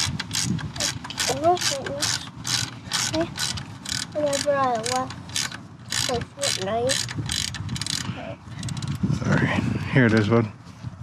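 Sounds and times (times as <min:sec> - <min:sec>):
ratchet wrench clicking: 0:00.0 - 0:09.0.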